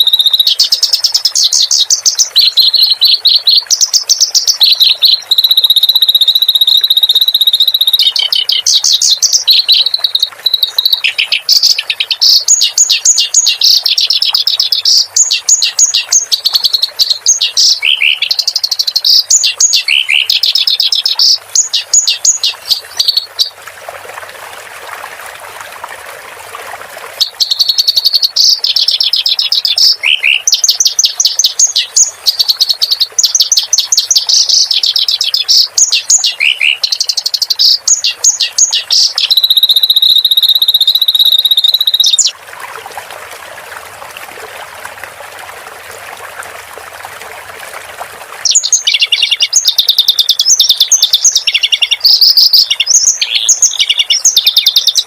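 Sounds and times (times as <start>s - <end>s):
songbird singing: 0.0s - 23.6s, 27.2s - 42.4s, 48.4s - 55.0s
trickle of running water: 0.0s - 55.0s.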